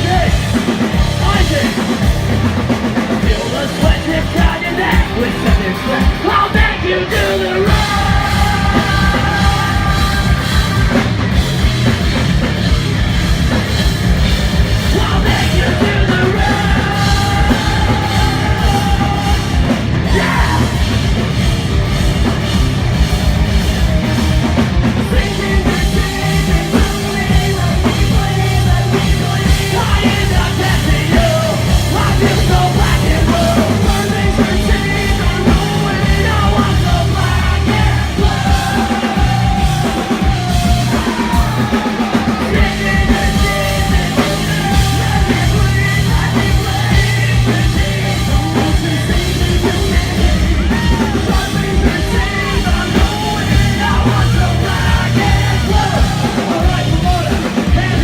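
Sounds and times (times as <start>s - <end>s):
distorted electric guitars: 0.0s - 58.0s
driving drum kit: 0.0s - 58.0s.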